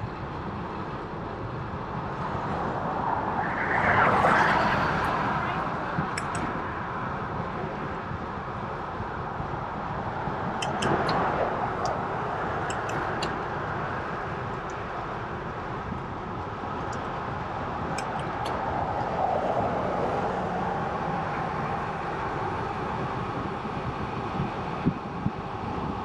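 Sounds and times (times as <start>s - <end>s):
bicycle road and wind noise: 0.0s - 26.0s
vehicles passing: 0.0s - 26.0s.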